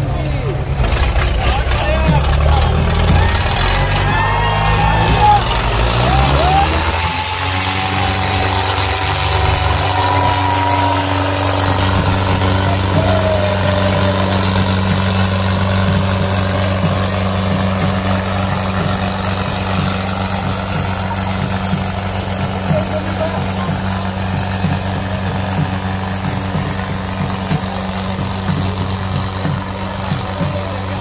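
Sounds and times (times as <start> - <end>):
tractor diesel engines running: 0.0 - 31.0.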